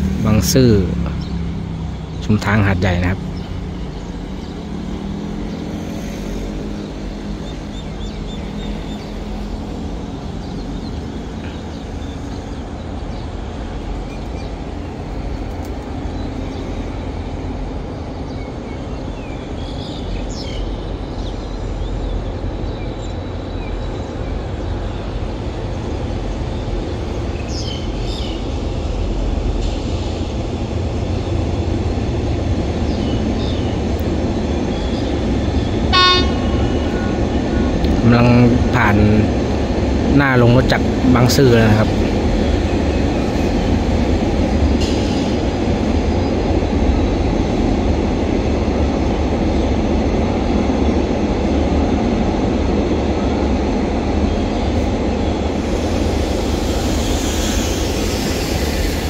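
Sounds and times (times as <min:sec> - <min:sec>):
birds chirping: 0:00.0 - 0:59.0
diesel locomotive rumble: 0:00.0 - 0:59.0.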